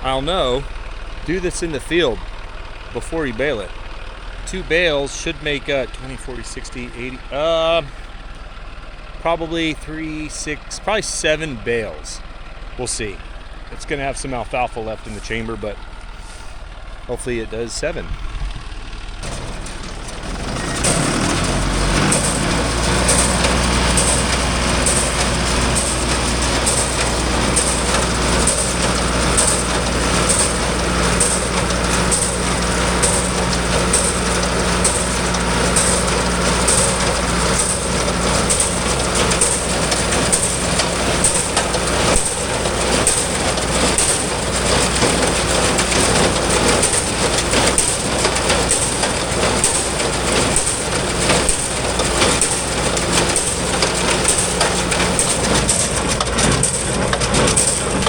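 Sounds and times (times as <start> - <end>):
hay baler plunger packing: 0.0 - 12.2, 12.8 - 58.0
engine droning: 0.0 - 58.0.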